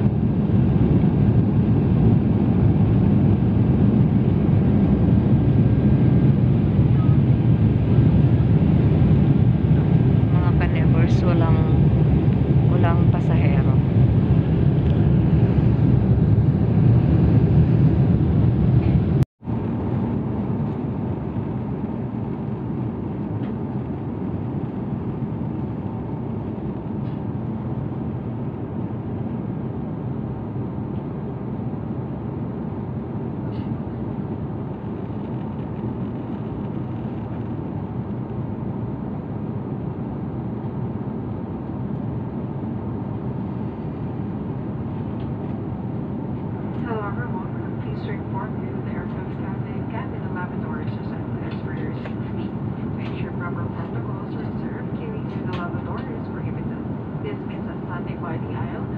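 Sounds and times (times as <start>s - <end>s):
airliner cabin engine noise: 0.0s - 58.9s.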